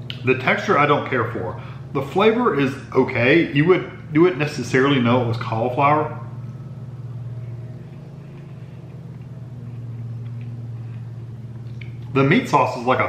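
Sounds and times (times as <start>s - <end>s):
lawn mower engine droning: 0.0s - 13.0s.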